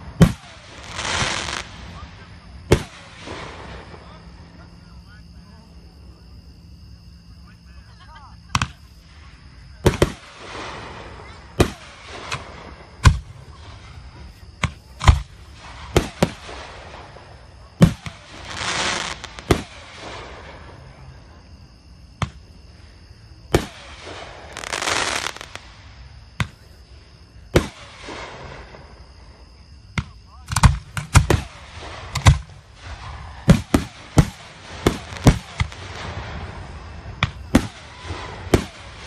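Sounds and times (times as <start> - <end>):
fireworks hissing rush: 0.0 - 5.3, 8.5 - 21.2, 22.6 - 29.6, 30.5 - 39.0
fireworks bangs: 0.0 - 5.4, 8.5 - 39.0.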